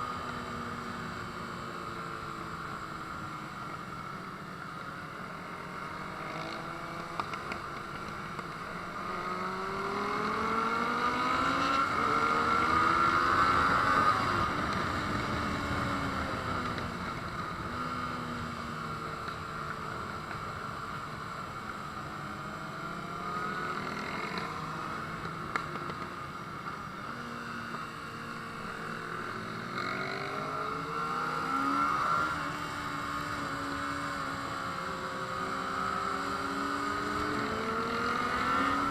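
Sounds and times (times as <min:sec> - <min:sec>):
motorcycle engine revving: 0:05.6 - 0:21.2, 0:22.0 - 0:38.9.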